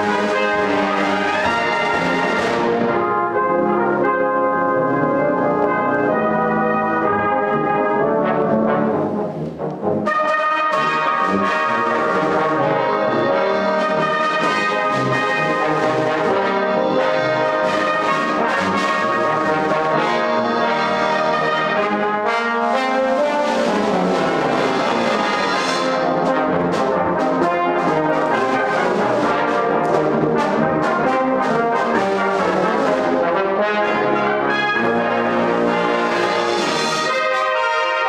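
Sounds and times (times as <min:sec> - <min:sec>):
brass band playing a march: 0:00.0 - 0:38.0.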